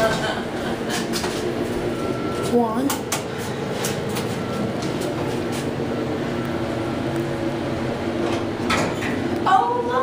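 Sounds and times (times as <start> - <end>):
elevator running hum: 0.0 - 10.0.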